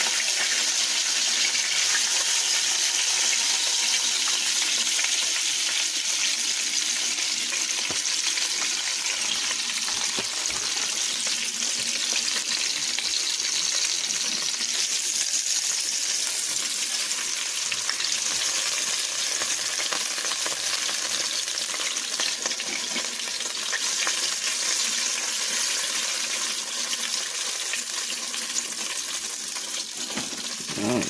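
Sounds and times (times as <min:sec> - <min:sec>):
liver frying in oil: 0:00.0 - 0:31.0.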